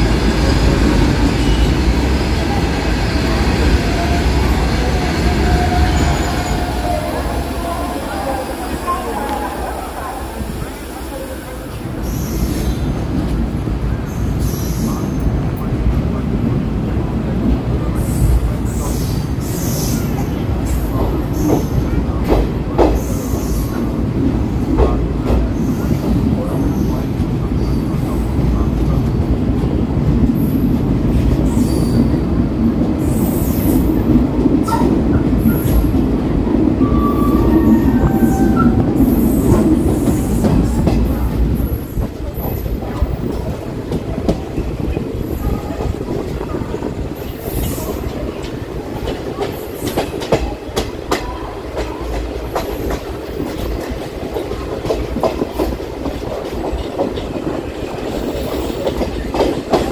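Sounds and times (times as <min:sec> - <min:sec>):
rumble of wheels on rails: 0:00.0 - 0:59.9.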